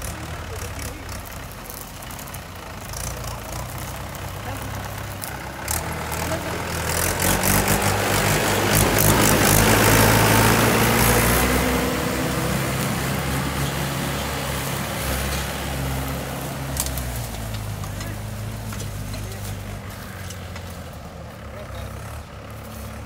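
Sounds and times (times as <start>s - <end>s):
tractor diesel engine: 0.0s - 23.0s.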